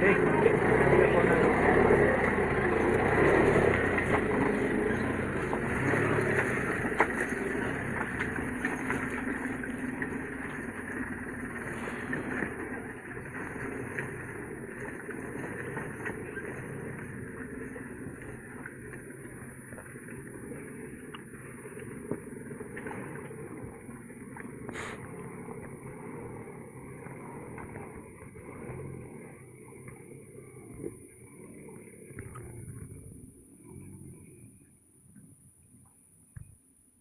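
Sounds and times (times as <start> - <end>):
old truck engine running: 0.0 - 36.6.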